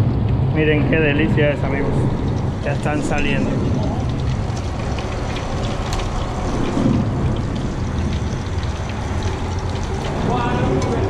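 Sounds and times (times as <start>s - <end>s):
fish deep-frying in hot oil: 0.0s - 11.0s
low steady rumble: 0.0s - 11.0s.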